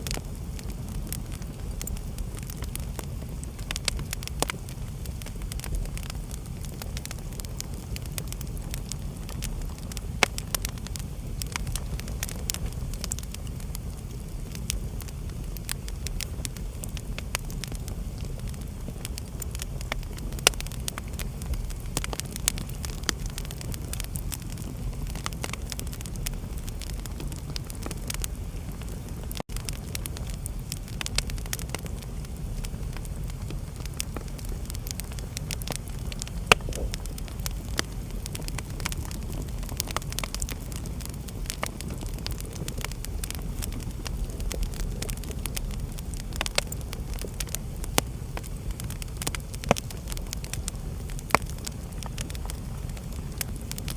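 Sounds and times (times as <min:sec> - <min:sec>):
steady low rumble: 0:00.0 - 0:53.9
wood fire crackling: 0:00.0 - 0:53.9.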